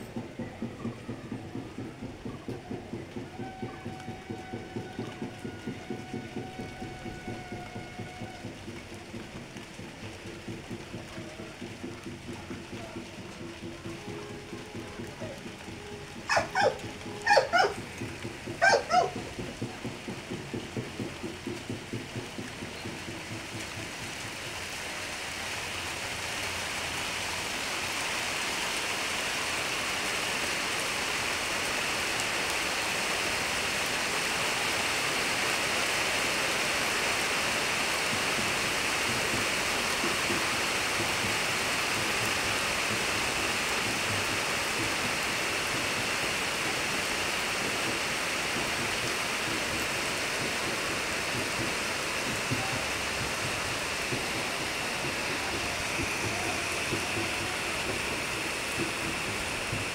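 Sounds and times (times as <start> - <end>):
hiss of rushing water: 0.0 - 59.9.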